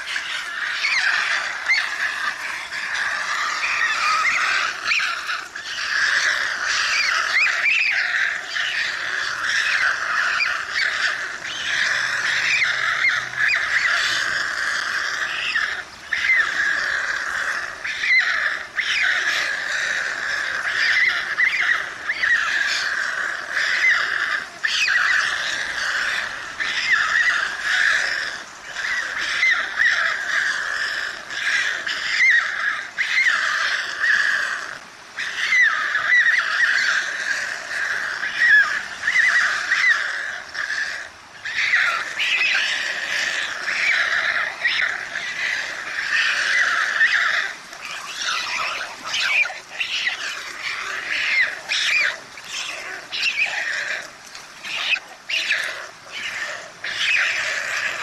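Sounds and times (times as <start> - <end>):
young storks begging calls: 0.0 - 58.0.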